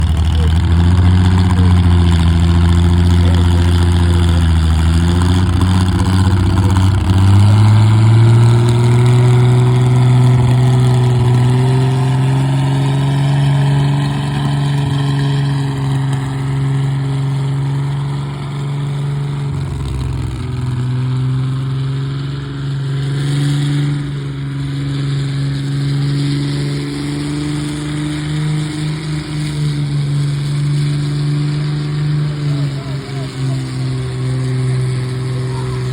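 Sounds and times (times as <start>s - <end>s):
tractor engine running hard: 0.0s - 35.9s.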